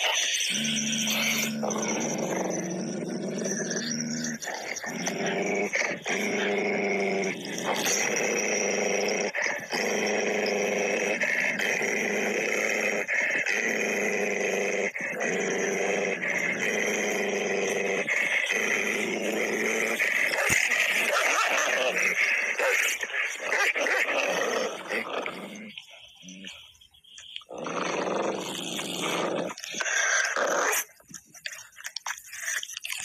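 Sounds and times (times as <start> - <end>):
wolf growling and snarling: 0.0 - 33.0.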